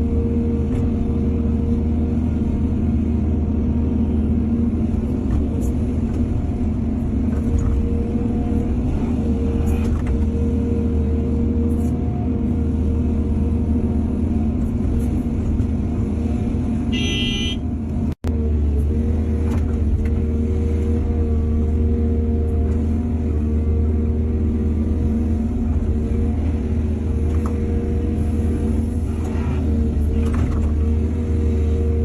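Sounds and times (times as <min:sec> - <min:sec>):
heavy diesel machinery droning: 0:00.0 - 0:32.0.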